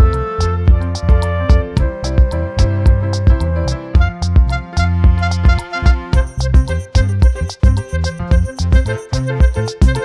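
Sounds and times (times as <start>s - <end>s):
instrumental music with heavy beat: 0.0s - 10.0s.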